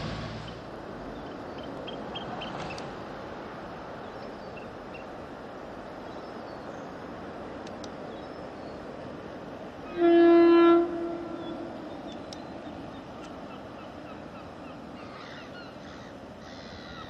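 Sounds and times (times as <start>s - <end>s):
distant train rushing noise: 0.0s - 17.0s.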